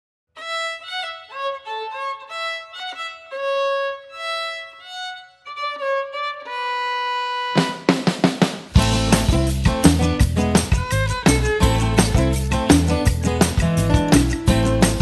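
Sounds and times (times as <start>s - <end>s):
solo fiddle melody: 0.3s - 8.0s, 8.8s - 15.0s.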